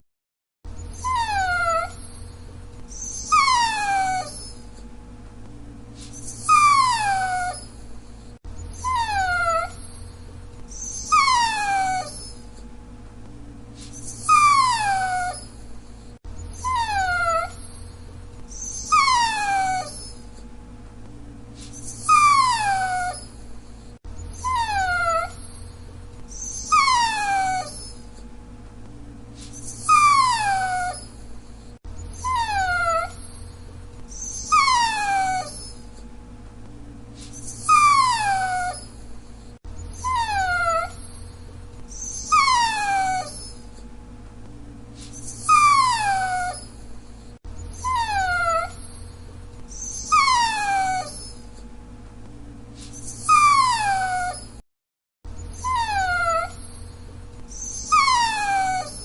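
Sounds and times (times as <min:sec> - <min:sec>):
dog whining: 0:00.7 - 0:04.9, 0:06.0 - 0:12.7, 0:13.8 - 0:20.5, 0:21.6 - 0:28.3, 0:29.4 - 0:36.1, 0:37.2 - 0:43.9, 0:45.0 - 0:51.7, 0:52.8 - 0:54.6, 0:55.3 - 0:59.0.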